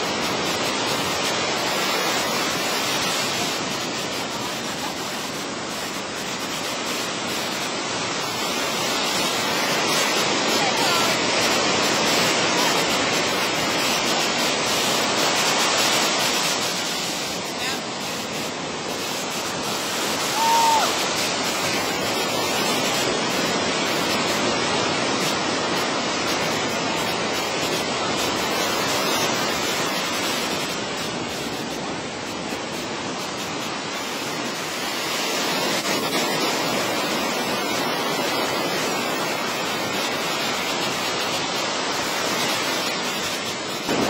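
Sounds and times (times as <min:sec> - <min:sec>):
ocean surf breaking: 0:00.0 - 0:44.0.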